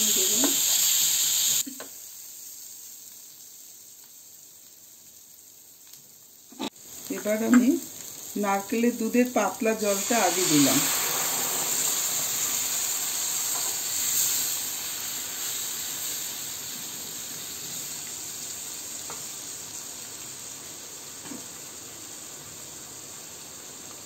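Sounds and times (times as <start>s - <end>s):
spice paste sizzling in a pan: 0.0s - 24.0s.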